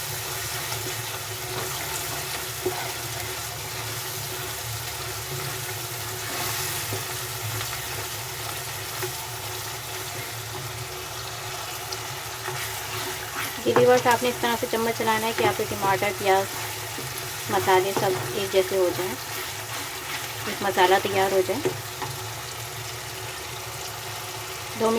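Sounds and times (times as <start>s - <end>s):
masala sizzling in hot oil: 0.0s - 24.9s
spoon scraping a pan: 0.3s - 11.2s, 12.4s - 22.2s.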